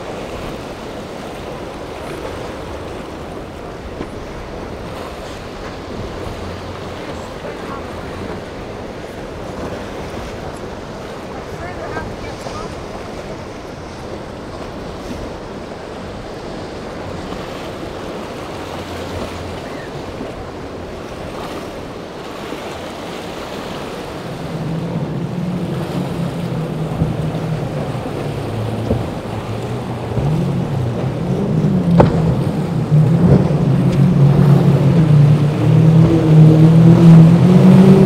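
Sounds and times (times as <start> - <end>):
outboard engines running: 0.0 - 38.0
waves: 0.0 - 38.0
wind on microphone: 0.0 - 38.0.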